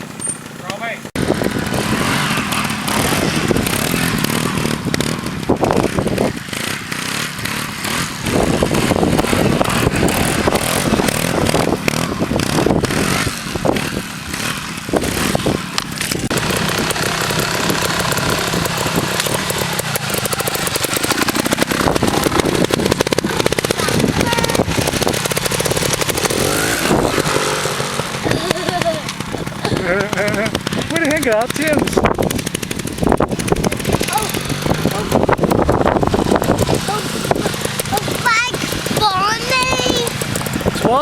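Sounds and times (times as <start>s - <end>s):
motorbike engine revving: 0.0s - 41.0s.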